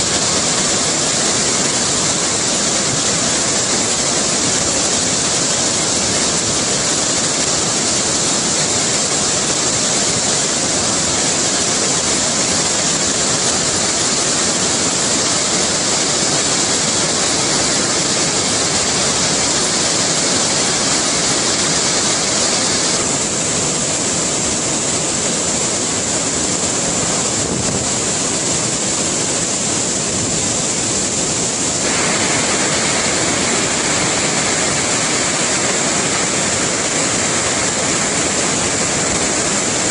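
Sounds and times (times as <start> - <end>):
waterfall roaring over rocks: 0.0 - 39.9.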